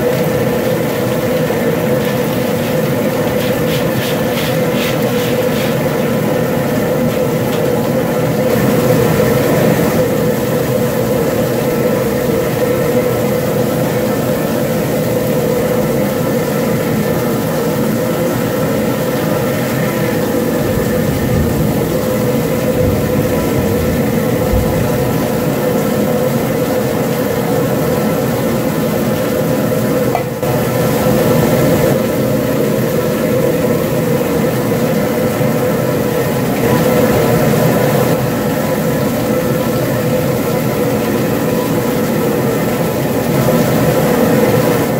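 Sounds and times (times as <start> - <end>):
propane burner rushing: 0.0 - 44.9.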